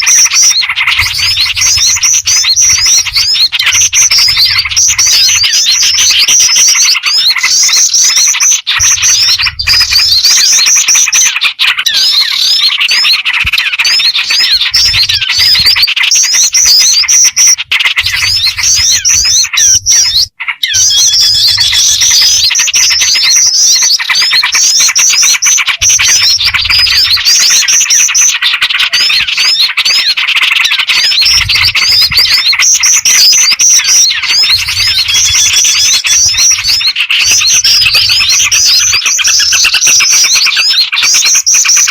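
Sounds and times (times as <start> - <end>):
small birds chirping and trilling: 0.0 - 41.9.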